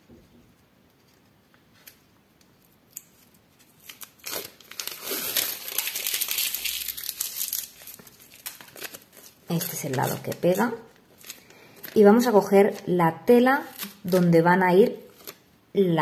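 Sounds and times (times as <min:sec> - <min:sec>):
paper backing crinkling: 0:00.9 - 0:15.5.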